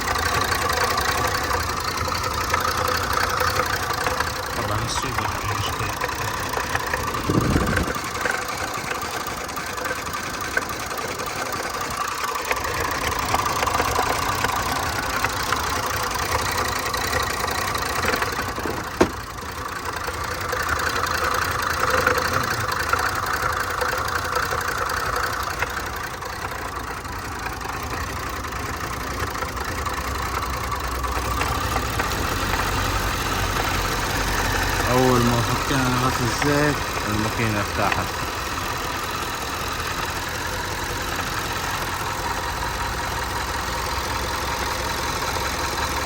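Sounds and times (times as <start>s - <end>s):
car engine idling roughly: 0.0s - 46.0s.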